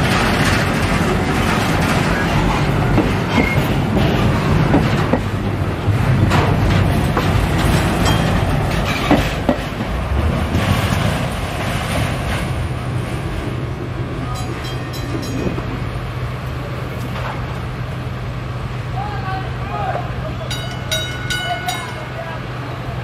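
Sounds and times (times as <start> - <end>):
freight cars rolling over rails: 0.0 - 23.0.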